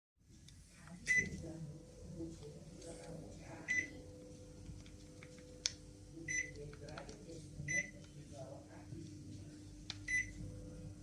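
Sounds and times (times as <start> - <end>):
steady hum: 0.2 - 11.0.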